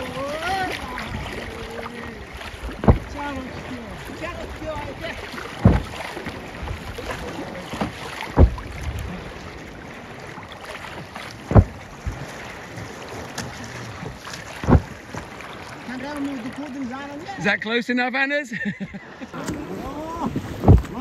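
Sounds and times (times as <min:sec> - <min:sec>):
whale tail slapping water: 0:00.0 - 0:17.4, 0:19.3 - 0:21.0
choppy water: 0:00.0 - 0:21.0
wind: 0:00.0 - 0:21.0.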